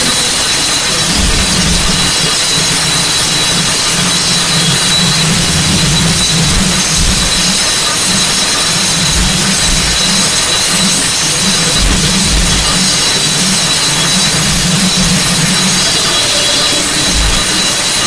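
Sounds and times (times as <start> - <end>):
electric fan rushing hiss: 0.0 - 18.0
low wavering hum: 0.0 - 18.0.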